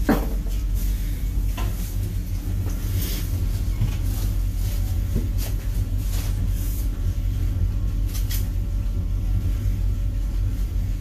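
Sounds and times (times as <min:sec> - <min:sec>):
low motor rumble: 0:00.0 - 0:11.0.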